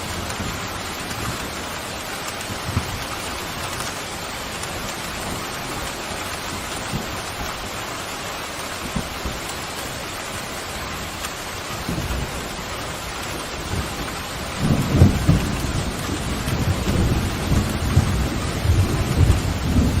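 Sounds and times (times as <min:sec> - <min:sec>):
pouring rain: 0:00.0 - 0:20.0.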